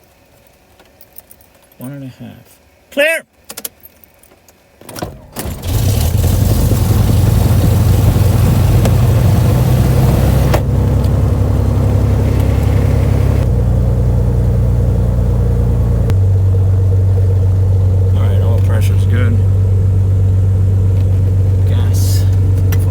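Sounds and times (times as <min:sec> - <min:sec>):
aircraft engine cranking and running: 0:04.4 - 0:22.9.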